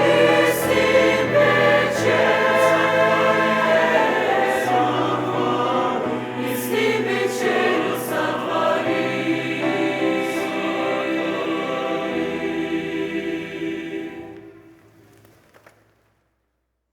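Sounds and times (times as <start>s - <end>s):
church choir singing a hymn: 0.0s - 15.0s.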